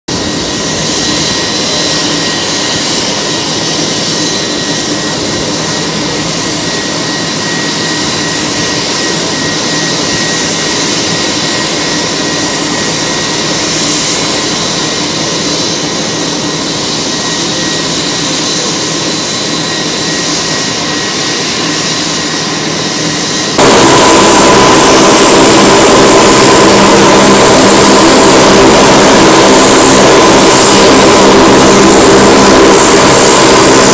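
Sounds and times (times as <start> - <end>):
propeller hum: 0.1 - 33.9
turbine whine: 0.1 - 33.9.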